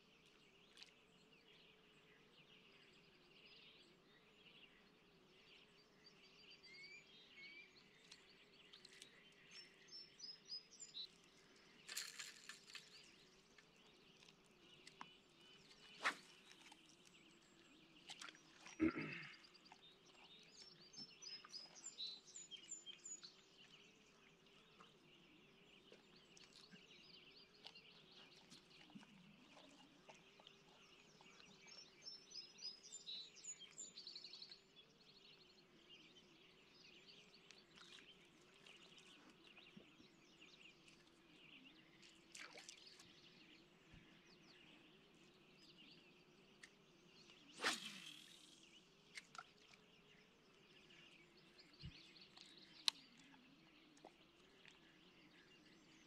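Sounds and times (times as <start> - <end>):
faint bird chirping: 0.0 - 56.0.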